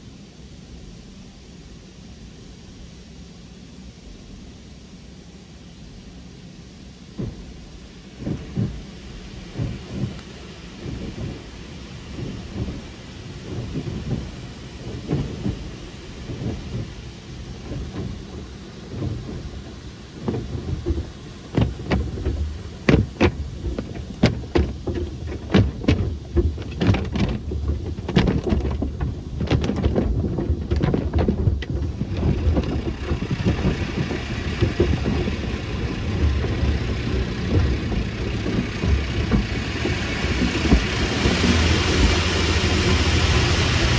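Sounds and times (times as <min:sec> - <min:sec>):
water spray drumming on car: 0:04.6 - 0:43.9
brushes slapping against car: 0:08.2 - 0:43.9.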